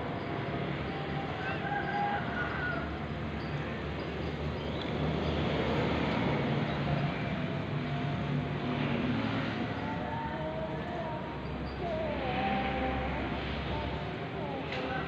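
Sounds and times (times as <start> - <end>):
street noise: 0.0 - 15.0
vehicle engine humming: 0.0 - 15.0.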